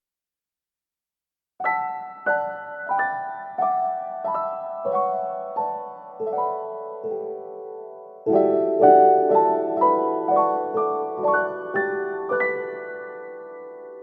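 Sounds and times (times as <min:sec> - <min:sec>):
slow piano melody: 0:01.6 - 0:14.0.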